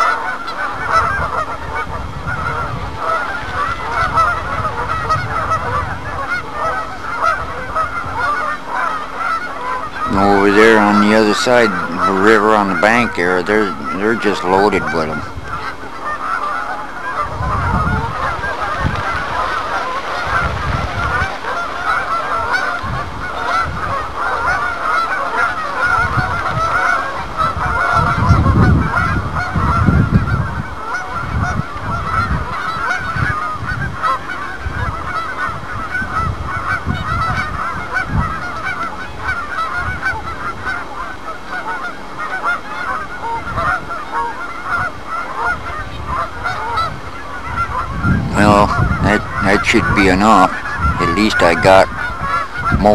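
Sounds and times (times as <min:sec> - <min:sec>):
geese honking: 0:00.0 - 0:52.9.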